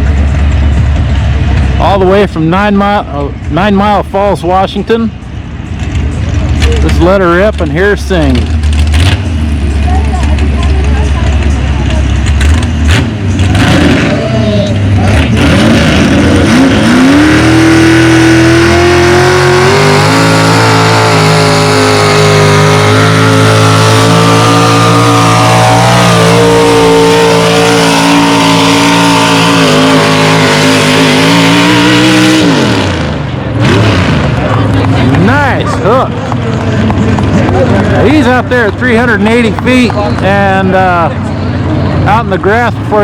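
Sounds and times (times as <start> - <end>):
truck engine revving at high rpm: 0.0 - 43.0.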